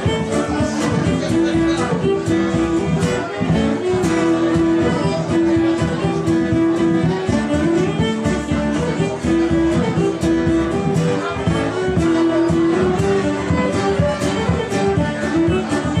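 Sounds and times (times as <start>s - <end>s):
fiddle melody: 0.0s - 16.0s
frame drum beat: 0.0s - 16.0s
strummed acoustic guitar: 0.0s - 16.0s.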